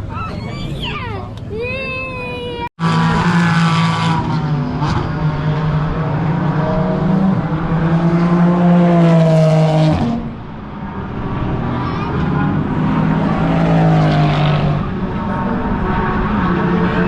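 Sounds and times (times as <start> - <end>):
race car engine: 2.3 - 17.0.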